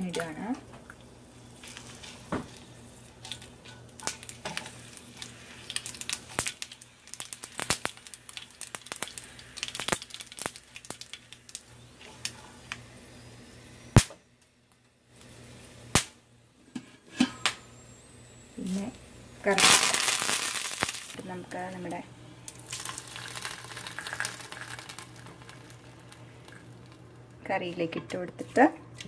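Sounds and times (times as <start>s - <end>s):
seeds popping in hot oil: 0.0s - 16.2s, 18.6s - 28.3s.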